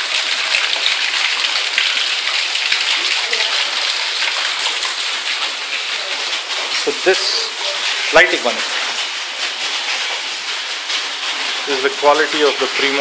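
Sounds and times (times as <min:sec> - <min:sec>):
water pouring from pipe: 0:00.0 - 0:13.0.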